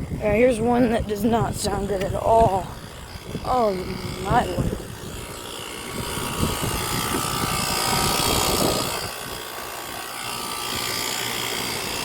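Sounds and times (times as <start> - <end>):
air conditioner unit whining: 0.0 - 12.0.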